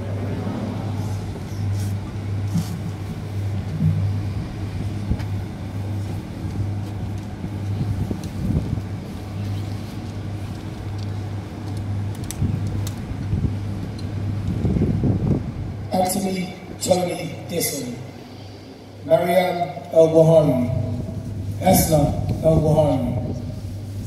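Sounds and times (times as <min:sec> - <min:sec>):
low rumble of distant traffic: 0:00.0 - 0:24.0
steady low hum: 0:00.0 - 0:24.0.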